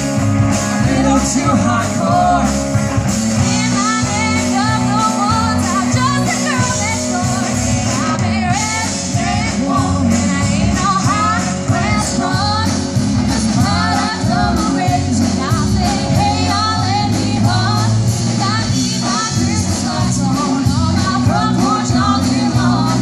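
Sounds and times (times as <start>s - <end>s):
bass guitar: 0.0s - 23.0s
drums: 0.0s - 23.0s
electric guitar: 0.0s - 23.0s
woman singing lead: 0.5s - 23.0s.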